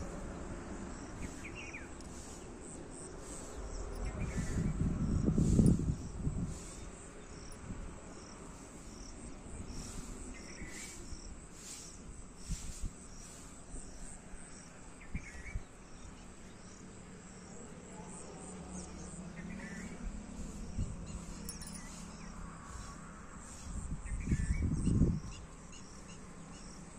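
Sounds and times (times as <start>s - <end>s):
insects chirring: 0.0s - 26.9s.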